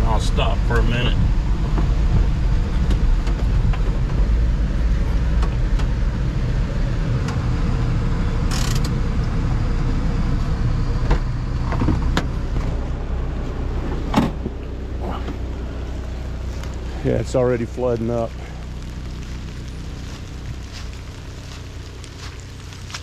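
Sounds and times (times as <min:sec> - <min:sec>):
engine running inside cab: 0:00.0 - 0:23.0.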